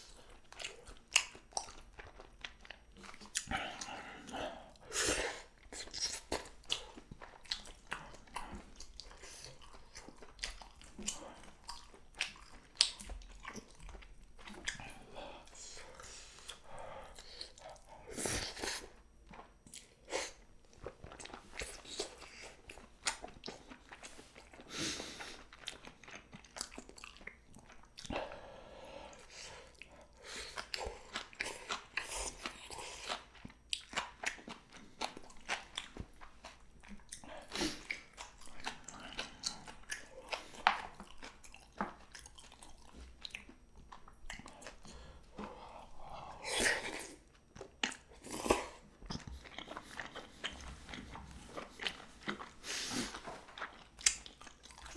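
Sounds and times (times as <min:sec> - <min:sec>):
chewing and mouth smacks: 0:00.0 - 0:54.9.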